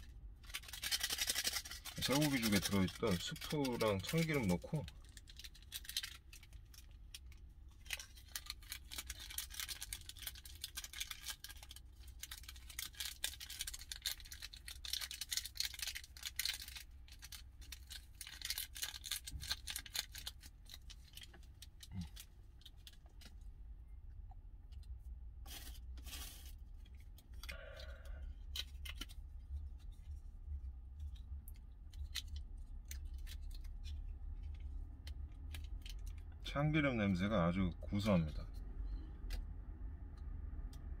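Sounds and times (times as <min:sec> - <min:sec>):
plastic sachets crinkling: 0:00.0 - 0:23.5, 0:25.5 - 0:30.1, 0:31.0 - 0:37.2
low steady hum: 0:00.0 - 0:41.0.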